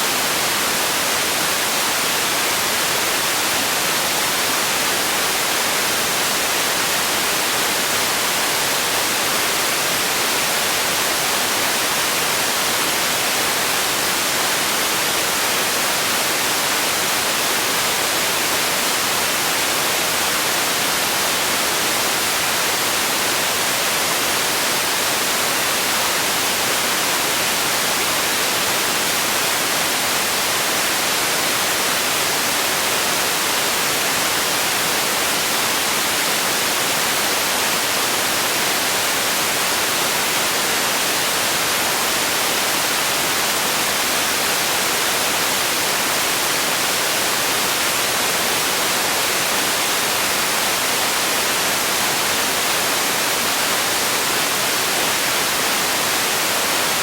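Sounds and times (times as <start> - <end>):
steady white noise hiss: 0.0 - 57.0.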